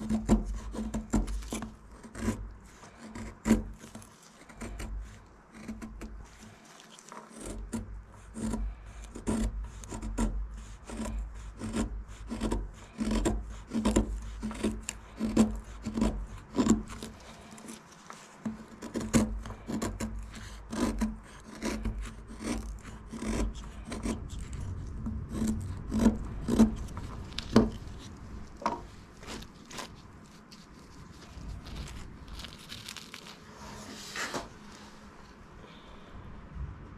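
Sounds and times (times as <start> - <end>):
knife scraping wood: 0.0 - 35.4.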